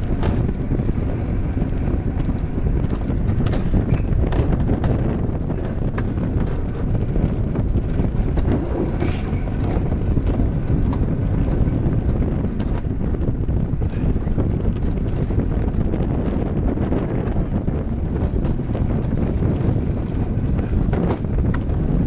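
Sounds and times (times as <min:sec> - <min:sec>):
coaster sled rumbling on rails: 0:00.0 - 0:22.0
wind buffeting microphone: 0:00.0 - 0:22.0.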